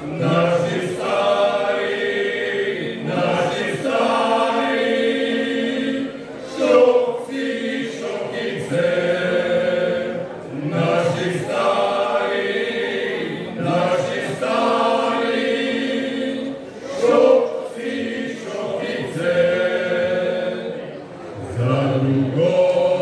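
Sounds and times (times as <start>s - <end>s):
men's choir singing a cappella: 0.0s - 23.0s.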